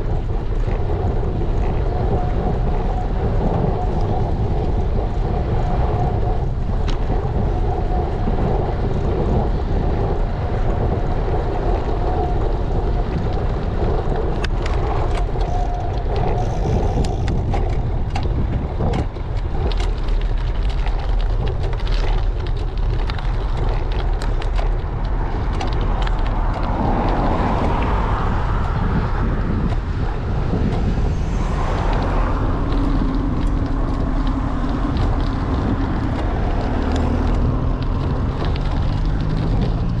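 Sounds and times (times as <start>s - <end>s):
bicycle clicks and rattles: 0.0s - 40.0s
tyre road noise: 0.0s - 40.0s
wind rushing over microphone: 0.0s - 40.0s.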